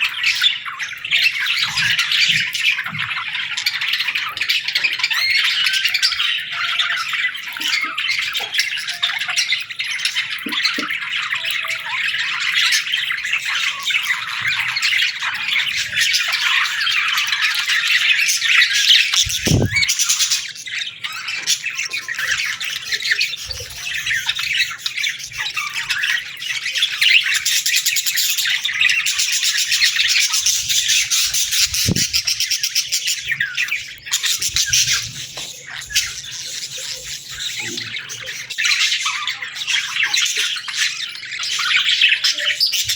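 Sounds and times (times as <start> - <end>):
budgerigars chattering: 0.0 - 42.9.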